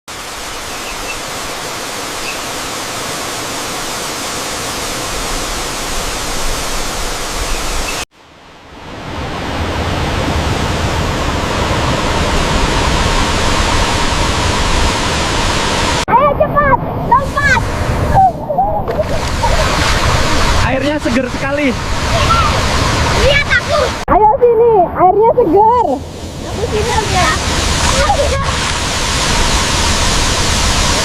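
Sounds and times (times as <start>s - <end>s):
waterfall rushing: 0.1s - 8.1s, 8.7s - 31.0s.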